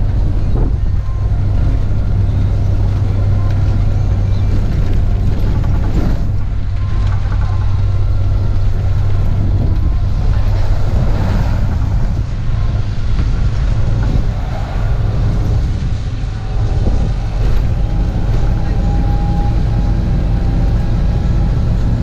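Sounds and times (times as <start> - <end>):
bus engine drone: 0.0 - 22.0
road and wind noise: 0.0 - 22.0.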